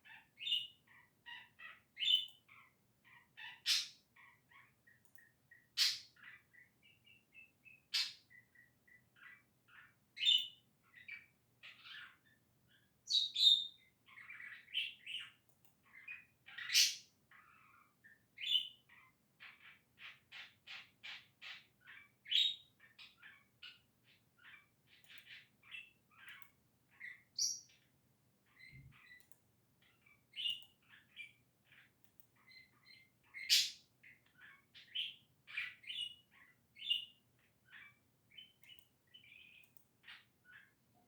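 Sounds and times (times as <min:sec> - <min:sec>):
budgerigar warbling and chattering: 0:00.0 - 0:04.7, 0:05.5 - 0:27.8, 0:29.8 - 0:40.7.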